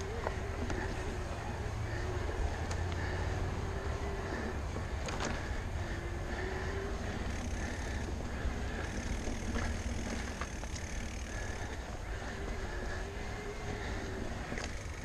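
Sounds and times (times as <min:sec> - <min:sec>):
bike rattling: 0:00.0 - 0:15.0
faint electric motor whine: 0:00.0 - 0:15.0
tyres rumbling on dirt: 0:00.0 - 0:15.0.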